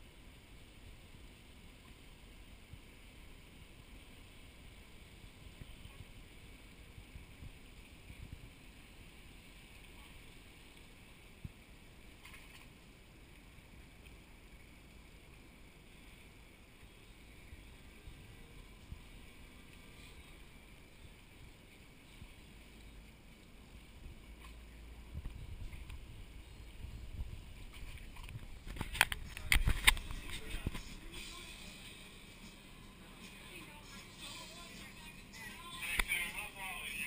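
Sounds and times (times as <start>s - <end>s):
boat engine rumbling: 0.1s - 37.0s.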